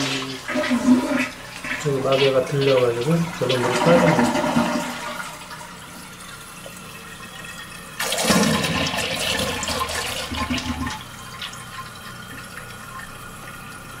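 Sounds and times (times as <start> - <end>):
tank refilling with water: 0.0 - 14.0
toilet flushing: 0.0 - 14.0.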